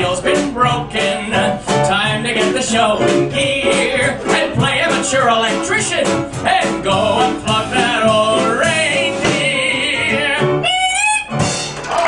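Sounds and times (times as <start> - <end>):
man singing: 0.0 - 11.4
drums: 0.0 - 12.0
piano: 0.0 - 12.0.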